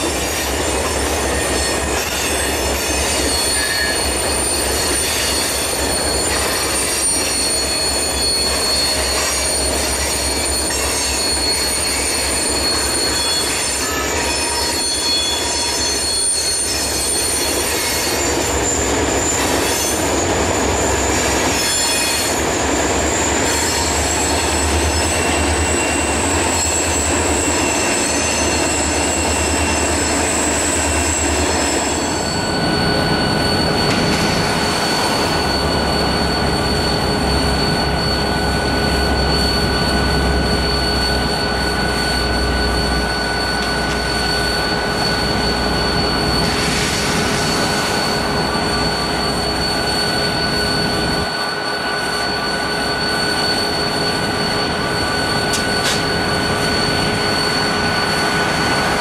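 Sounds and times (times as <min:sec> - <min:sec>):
freight train rumbling: 0:00.0 - 0:59.0
train wheels squealing: 0:00.0 - 0:59.0.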